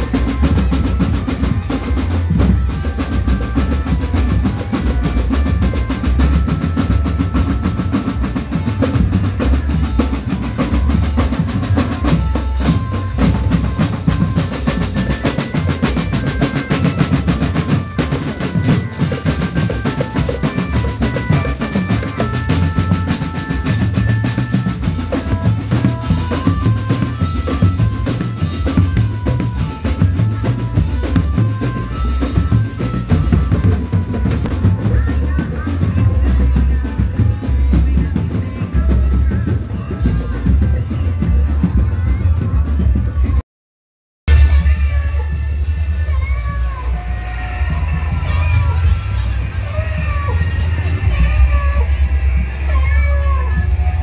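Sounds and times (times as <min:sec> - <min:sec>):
bass drums: 0:00.0 - 0:43.4, 0:44.3 - 0:54.0
snare drums: 0:00.0 - 0:43.4.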